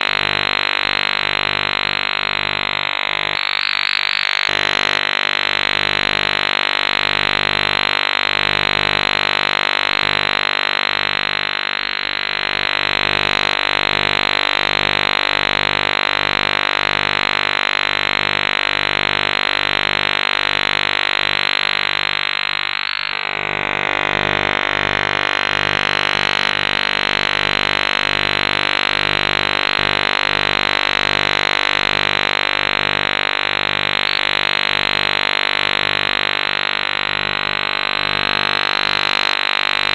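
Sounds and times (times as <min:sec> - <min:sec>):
harsh fuzzy electronic buzzing drone: 0:00.0 - 0:39.9.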